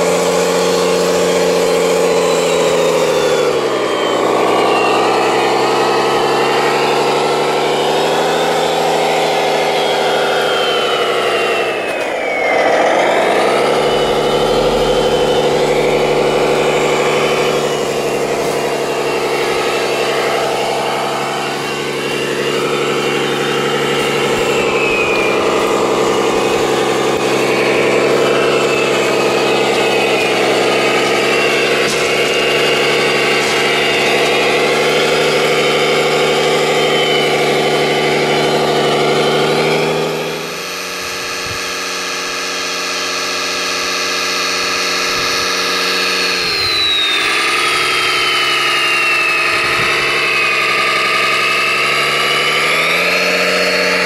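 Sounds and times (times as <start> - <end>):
faint high whine: 0.0 - 54.0
model tractor engine running: 0.0 - 54.0.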